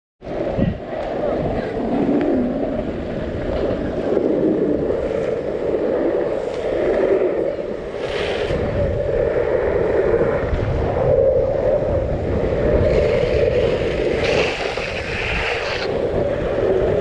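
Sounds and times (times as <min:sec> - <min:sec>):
longboard wheels rolling on concrete: 0:00.2 - 0:17.0
wind buffeting microphone: 0:00.2 - 0:17.0.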